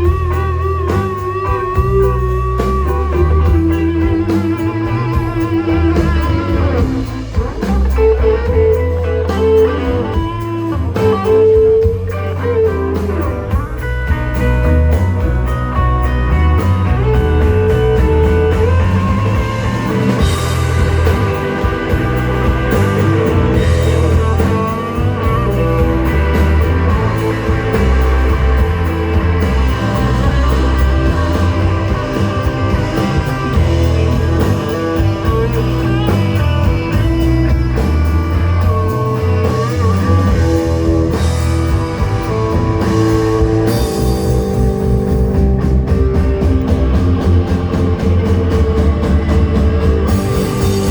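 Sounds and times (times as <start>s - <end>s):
rock music with guitar and drums: 0.0s - 50.9s.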